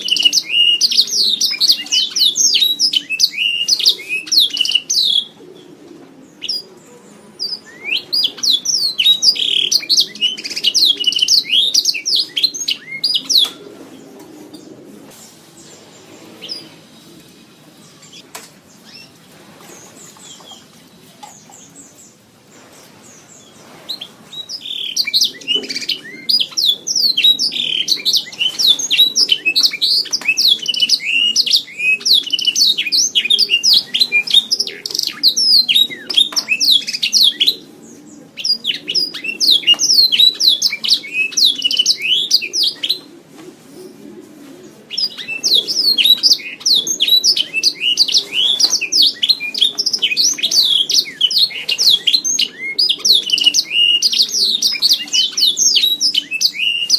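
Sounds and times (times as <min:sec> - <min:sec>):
canary singing trills: 0:00.0 - 0:22.2, 0:23.0 - 0:43.1, 0:44.8 - 0:56.9.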